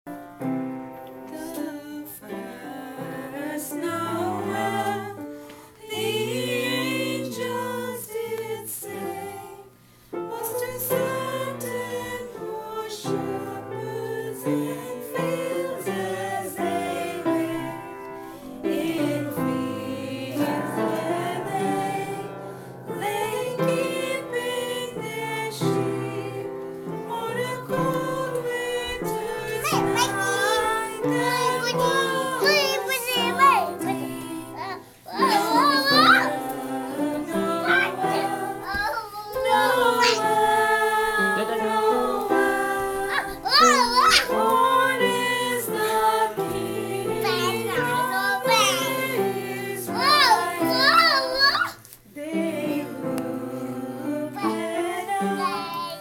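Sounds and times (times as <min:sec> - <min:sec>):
upright piano: 0:00.0 - 0:56.0
group of voices singing: 0:01.0 - 0:56.0.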